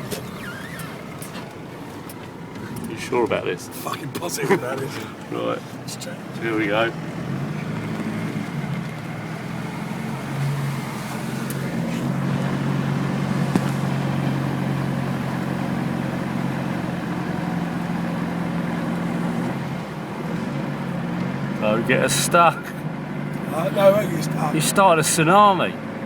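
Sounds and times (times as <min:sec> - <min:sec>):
vehicle engine at low revs: 0:00.0 - 0:26.0.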